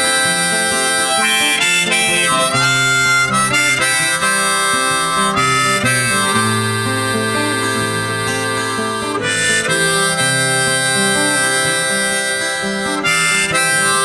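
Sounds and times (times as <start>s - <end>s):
harmonica over guitar: 0.0s - 14.0s.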